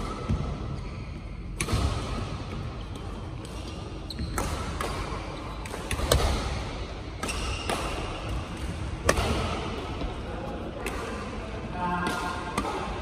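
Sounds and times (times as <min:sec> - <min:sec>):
rackets hitting shuttlecock: 0:01.4 - 0:10.1, 0:10.8 - 0:13.0.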